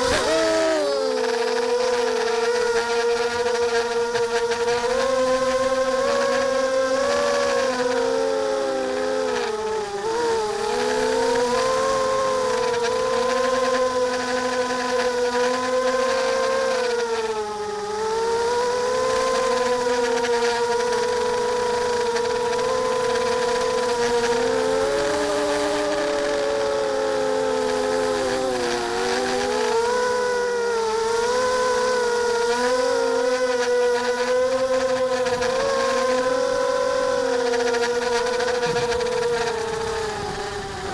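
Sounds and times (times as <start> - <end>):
drone propellers whining: 0.0 - 40.9.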